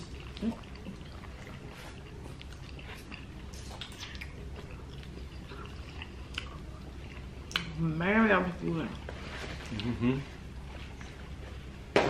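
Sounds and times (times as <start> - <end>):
chewing and wet mouth sounds: 0.0 - 11.8
steady low hum: 0.0 - 12.0.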